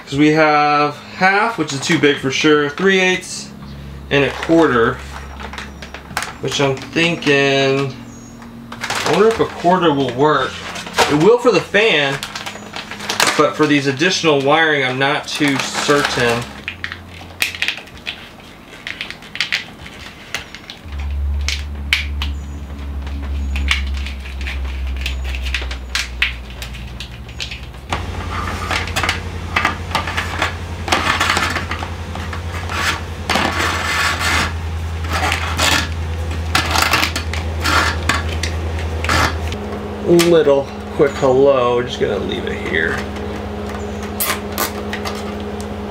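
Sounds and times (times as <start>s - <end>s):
wires rattling and scraping: 0.0s - 45.6s
steady low hum: 0.0s - 45.9s.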